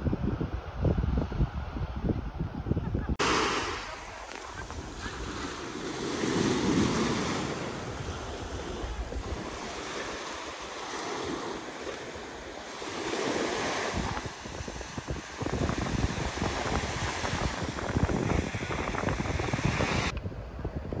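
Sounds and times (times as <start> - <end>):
wind rumbling on microphone: 0.0 - 21.0
small waves breaking on beach: 3.2 - 20.1.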